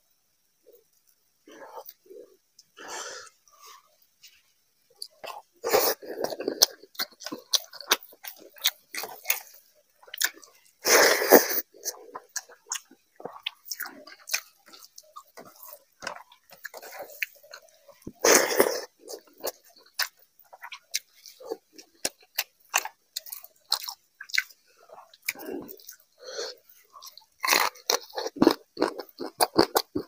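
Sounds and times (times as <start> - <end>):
chewing food: 5.0 - 30.0.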